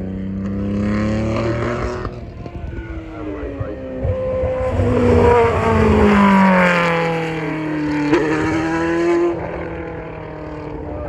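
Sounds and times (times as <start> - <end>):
race car engine passing: 0.2 - 10.9.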